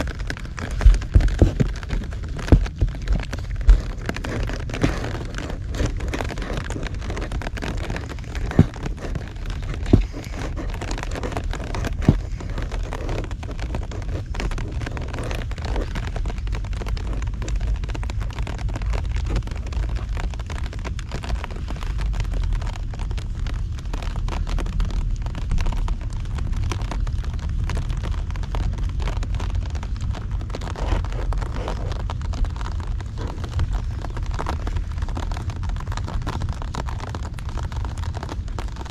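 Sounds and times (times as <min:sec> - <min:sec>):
deep steady rumble: 0:00.0 - 0:38.9
heavy rain: 0:00.0 - 0:38.9.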